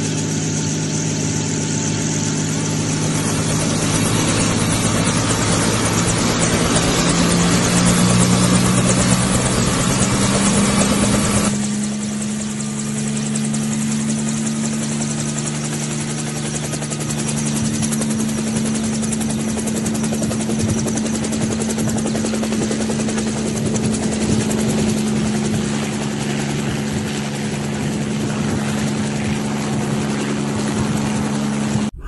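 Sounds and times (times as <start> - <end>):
helicopter engine hum: 0.0 - 32.0
helicopter rotor chop: 0.0 - 32.0.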